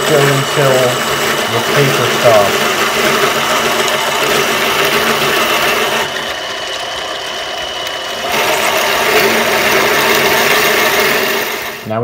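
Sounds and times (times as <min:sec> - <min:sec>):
lathe drilling into bolt: 0:00.0 - 0:12.0.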